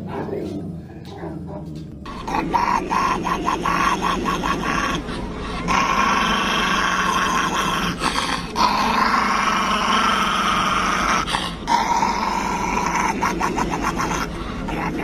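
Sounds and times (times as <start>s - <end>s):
dog growling: 0.0s - 15.0s.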